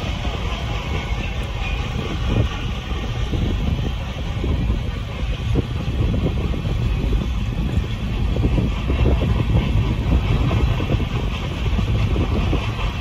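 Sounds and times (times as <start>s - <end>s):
train rumble: 0.0s - 13.0s
wheels clattering on rails: 0.0s - 13.0s.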